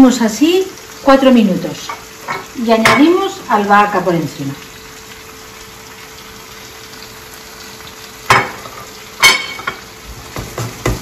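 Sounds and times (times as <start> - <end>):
fish sizzling in a frying pan: 0.0 - 11.0.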